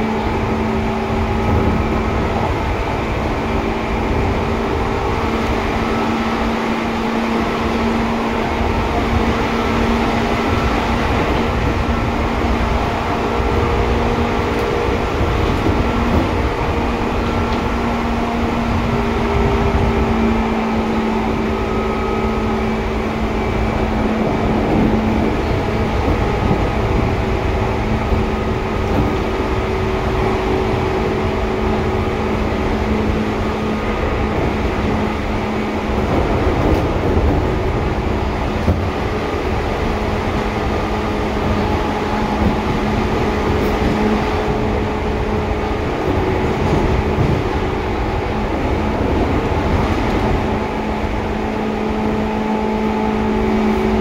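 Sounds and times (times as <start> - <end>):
train motor and gear hum: 0.0 - 54.0
wheels rumbling on rail: 0.0 - 54.0.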